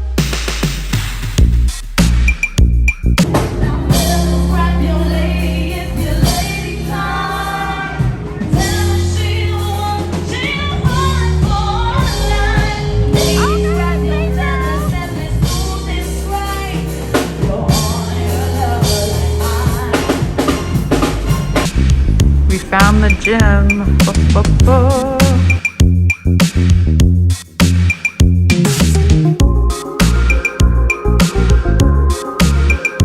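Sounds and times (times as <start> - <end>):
song with vocalist and drum beat: 0.0 - 33.0.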